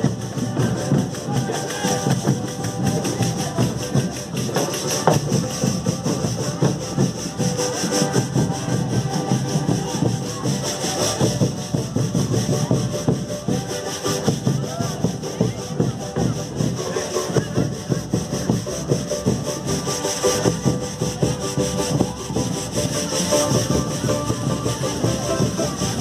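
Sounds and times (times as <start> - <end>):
drum band playing: 0.0 - 26.0.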